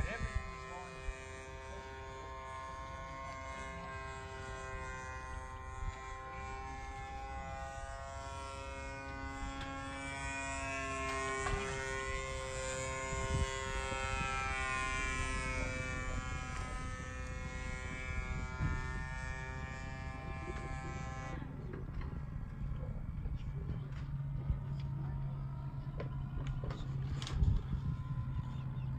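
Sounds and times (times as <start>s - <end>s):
model plane engine buzzing: 0.0s - 28.9s.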